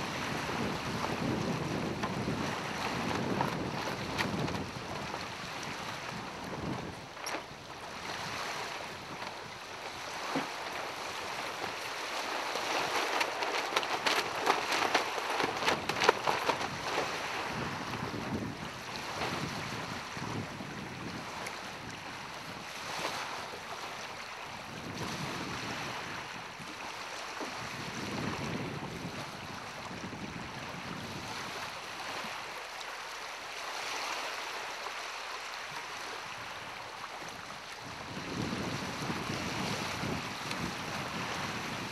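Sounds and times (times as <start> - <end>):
wind buffeting microphone: 0.0 - 32.4, 35.9 - 41.9
small waves lapping: 0.0 - 41.9.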